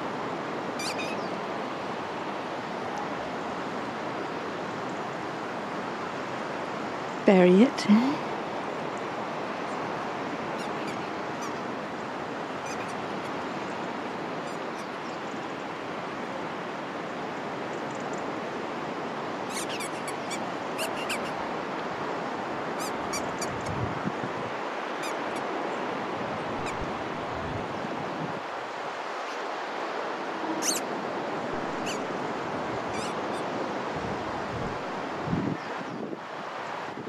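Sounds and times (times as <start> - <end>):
wind: 0.0 - 37.0.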